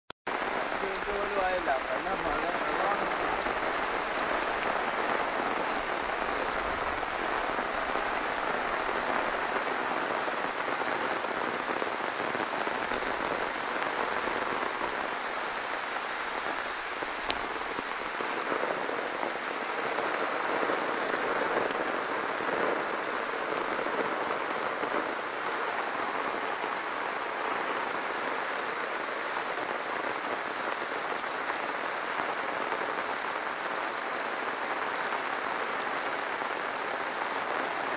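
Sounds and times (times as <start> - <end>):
steady rain hissing: 0.3 - 37.9.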